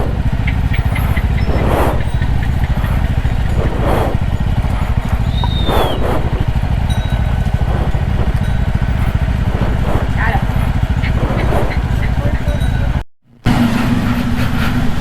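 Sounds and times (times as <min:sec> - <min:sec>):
wind rushing: 0:00.0 - 0:13.0
motorcycle engine running: 0:00.0 - 0:15.0.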